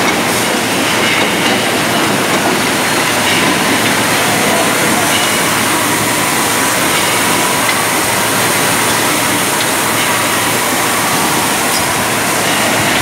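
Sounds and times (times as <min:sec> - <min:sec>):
bottling machinery rumble and hiss: 0:00.0 - 0:13.0.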